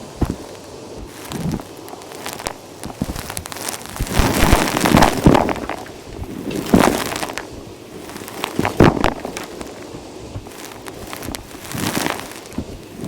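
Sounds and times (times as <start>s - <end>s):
debris rattling up hose: 0.0s - 13.0s
vacuum cleaner sucking up grit: 0.0s - 13.0s.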